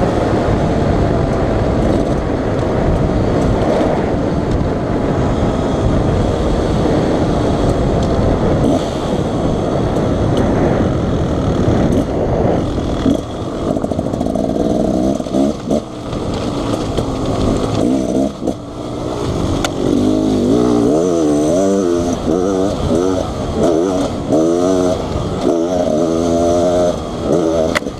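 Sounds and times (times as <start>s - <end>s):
dirt bike engine revving: 5.1s - 27.9s.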